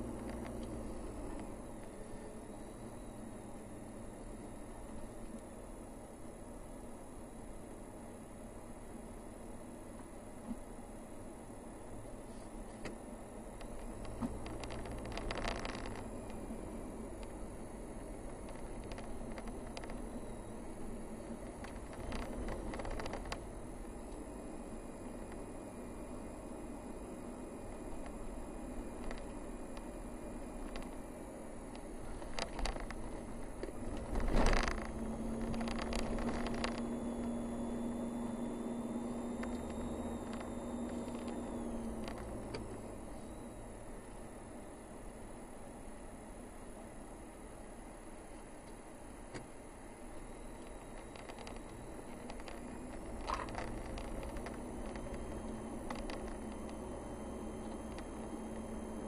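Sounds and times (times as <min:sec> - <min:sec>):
car engine and tyre rumble: 0:00.0 - 0:59.0
steady hum: 0:00.0 - 0:59.0.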